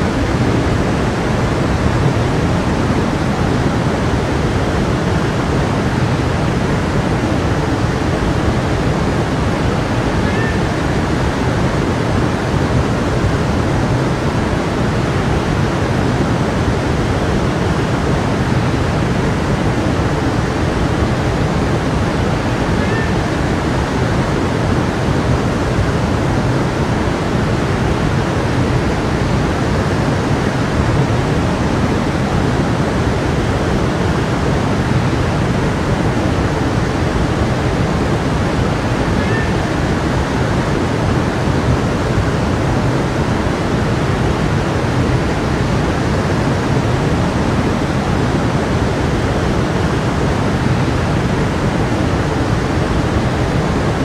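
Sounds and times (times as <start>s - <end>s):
stream rushing: 0.0s - 54.0s.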